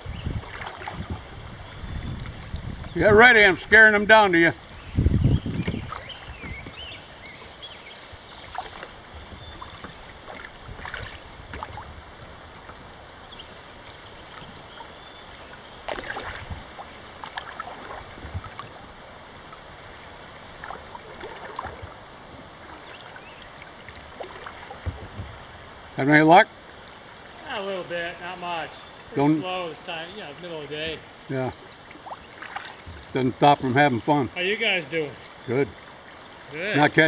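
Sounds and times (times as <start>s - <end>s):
paddle strokes splashing: 0.0s - 37.0s
river rushing: 0.0s - 37.0s
water lapping at hull: 0.0s - 37.0s.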